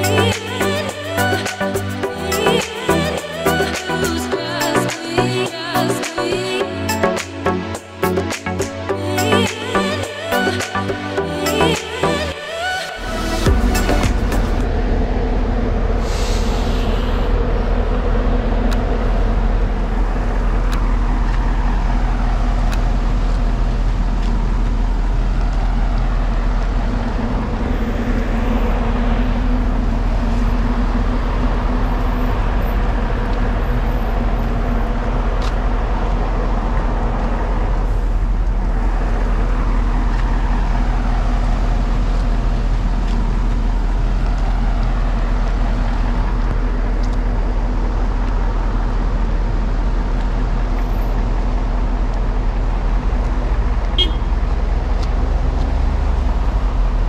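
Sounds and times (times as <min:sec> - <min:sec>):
vehicle engine idling: 0:09.0 - 0:57.0.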